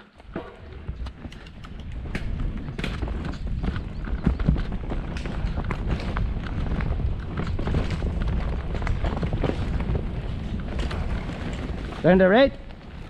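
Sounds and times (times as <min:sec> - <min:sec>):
bike rattling and knocking: 0:00.0 - 0:13.0
bike tyres on dirt and stones: 0:00.0 - 0:13.0
wind rumble on microphone: 0:00.0 - 0:13.0.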